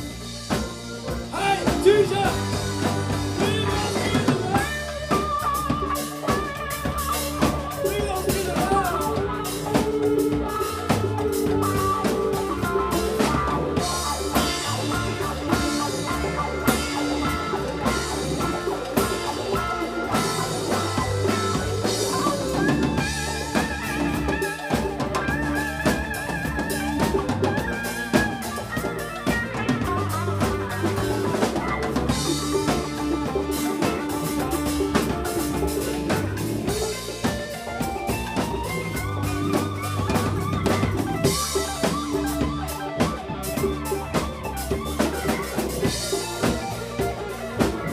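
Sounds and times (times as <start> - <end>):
bass line: 0.0 - 47.9
drum kit: 0.0 - 47.9.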